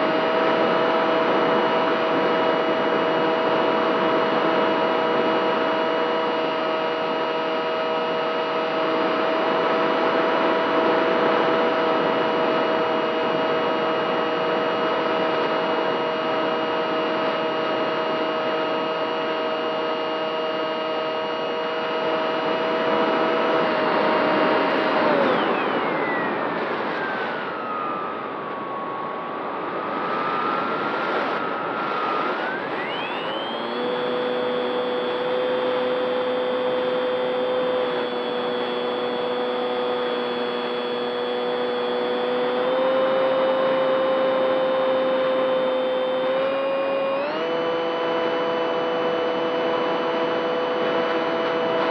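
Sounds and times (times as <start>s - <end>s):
model plane motor whine: 0.0s - 29.1s, 29.7s - 51.9s.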